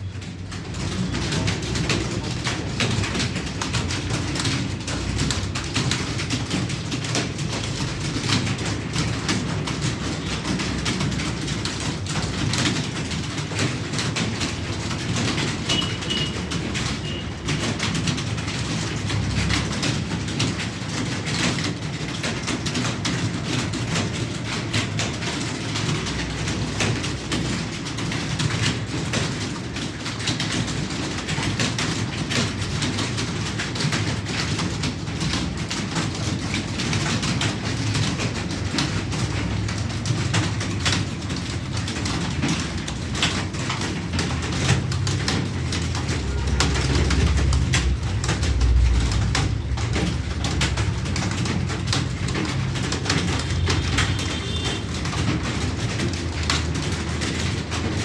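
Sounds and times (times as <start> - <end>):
fast keyboard typing: 0.0 - 58.0.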